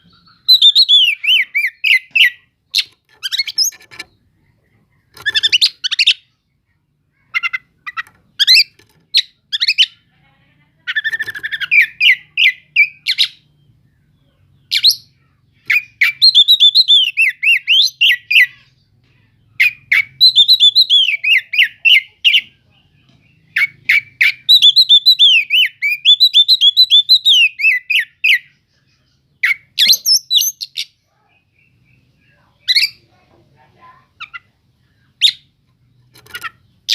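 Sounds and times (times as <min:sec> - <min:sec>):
bird singing: 0:00.0 - 0:33.2, 0:33.9 - 0:36.9.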